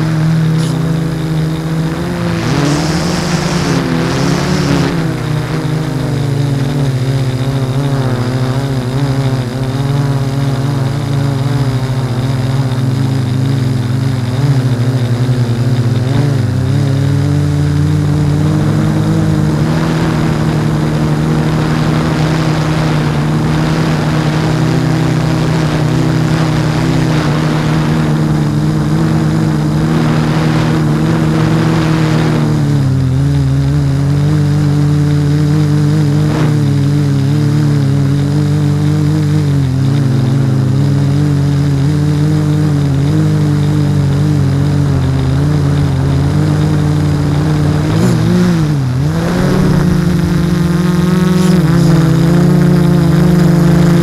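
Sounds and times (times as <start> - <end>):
drone motors humming: 0.0 - 54.0.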